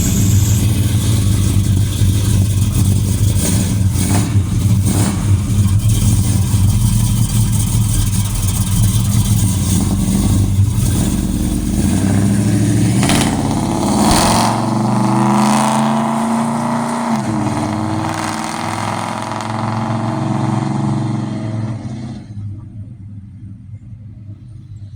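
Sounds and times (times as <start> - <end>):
deep engine exhaust rumble: 0.0 - 24.9.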